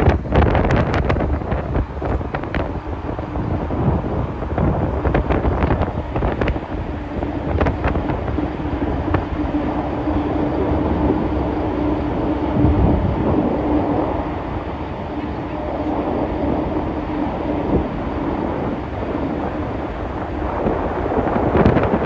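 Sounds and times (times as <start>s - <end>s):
ferry engines droning: 0.0s - 22.0s
wind on microphone: 0.0s - 22.0s.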